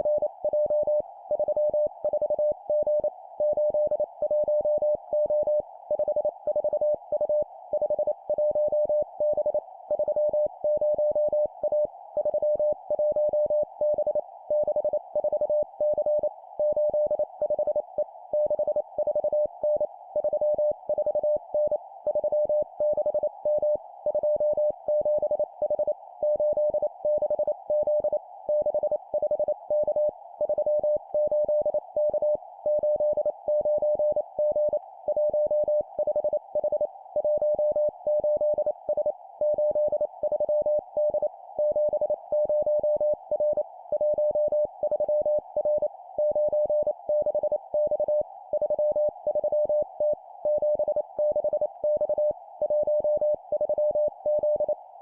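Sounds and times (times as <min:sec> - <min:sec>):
morse code beeps: 0:00.1 - 0:54.8.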